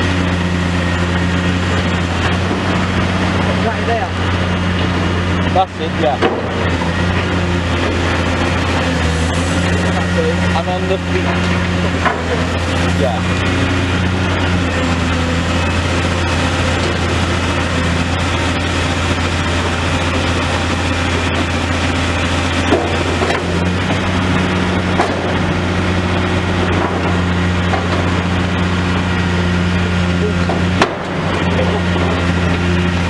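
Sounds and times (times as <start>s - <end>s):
excavator diesel engine running: 0.0s - 33.0s
building material crunching and cracking: 0.1s - 33.0s.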